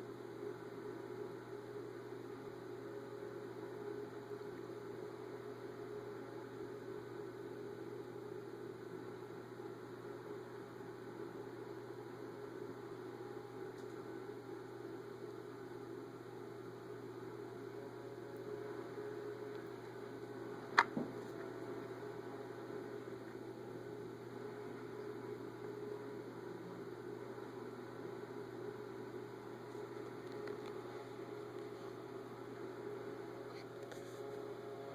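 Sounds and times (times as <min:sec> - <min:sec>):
low hum and hiss: 0:00.0 - 0:34.9.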